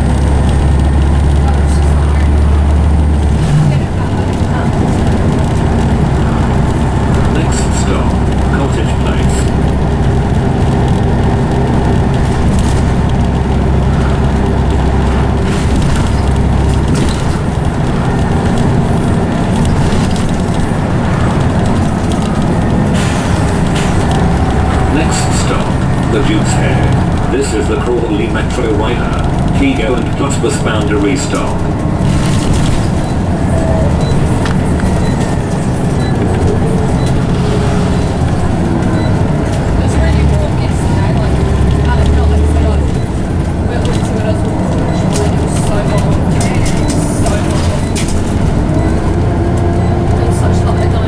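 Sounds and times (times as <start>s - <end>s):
bus engine drone: 0.0s - 51.0s
gearbox whine: 0.0s - 51.0s.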